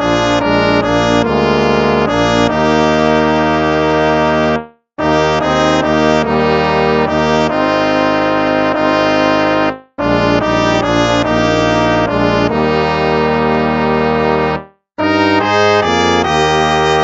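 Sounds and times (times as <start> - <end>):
brass instruments playing hymn: 0.0 - 17.0.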